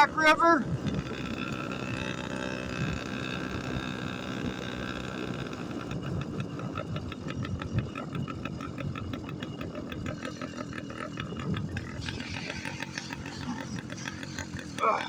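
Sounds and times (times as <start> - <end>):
small two-stroke engine running: 0.0 - 15.0.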